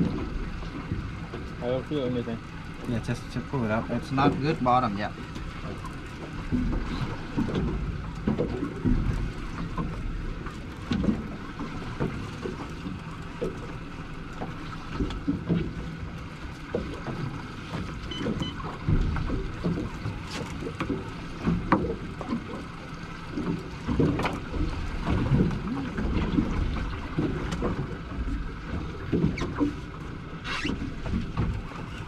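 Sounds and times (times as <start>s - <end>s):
water splashing against hull: 0.0s - 32.0s.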